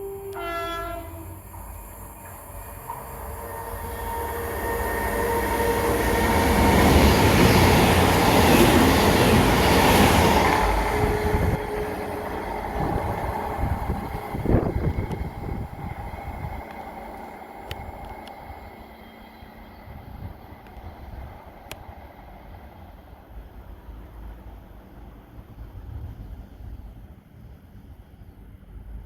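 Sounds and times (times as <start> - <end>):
passenger train passing: 0.0 - 29.0.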